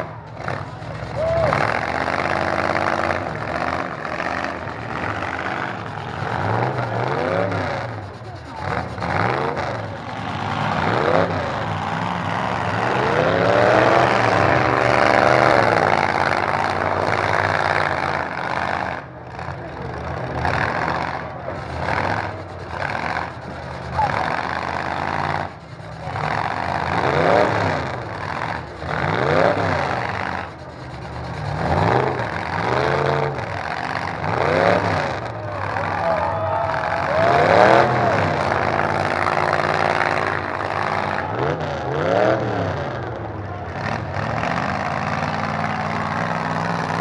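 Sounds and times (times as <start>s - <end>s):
constant engine din: 0.0s - 47.0s
truck engines revving hard: 0.0s - 47.0s.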